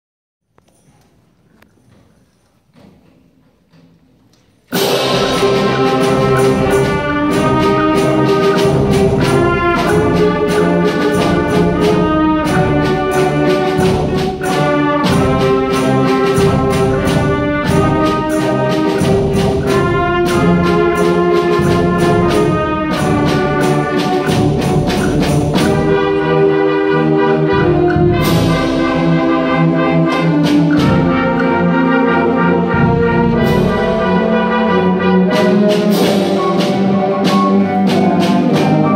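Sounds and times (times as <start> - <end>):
concert band playing: 4.7 - 38.9
sharp percussion hits: 4.7 - 38.9.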